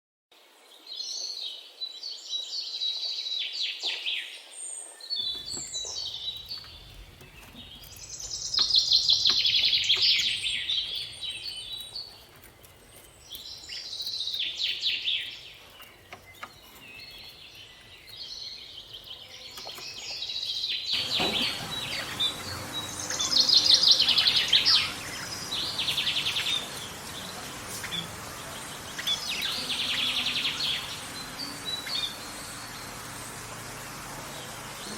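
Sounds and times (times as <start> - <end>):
songbirds singing trilled phrases: 1.0 - 34.9
steady hiss: 5.2 - 34.9.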